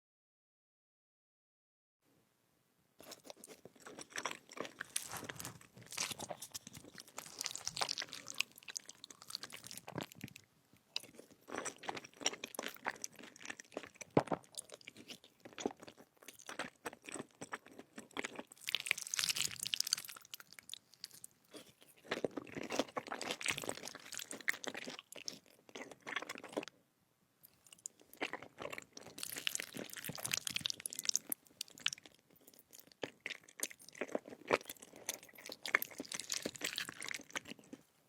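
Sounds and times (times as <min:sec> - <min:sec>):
crunchy chewing: 0:03.0 - 0:26.7, 0:27.4 - 0:37.8.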